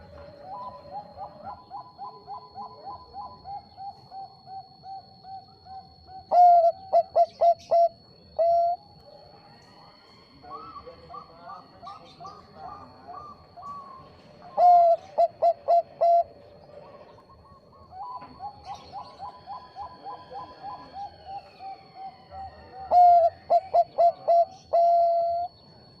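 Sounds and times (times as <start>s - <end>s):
doves cooing: 0.0s - 26.0s.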